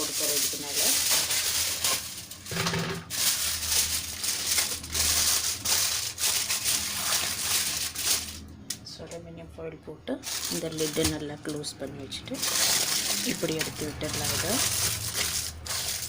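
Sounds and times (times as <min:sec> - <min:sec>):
aluminium foil crinkling: 0:00.0 - 0:08.5, 0:10.2 - 0:16.0.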